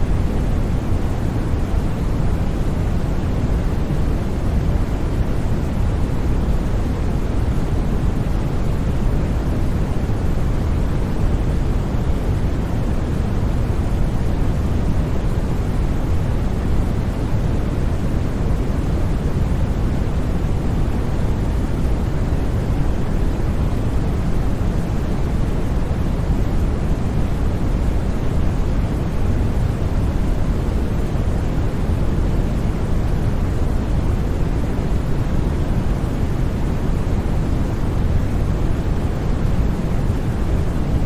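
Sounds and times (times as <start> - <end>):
white noise hiss: 0.0 - 41.0.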